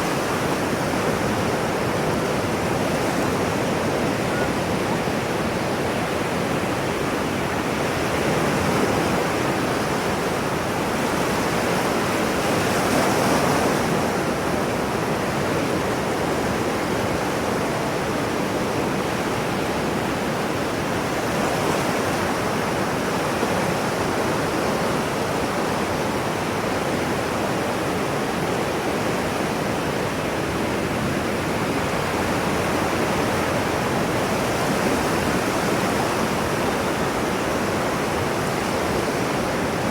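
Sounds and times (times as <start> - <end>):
breaking ocean waves: 0.0 - 39.9.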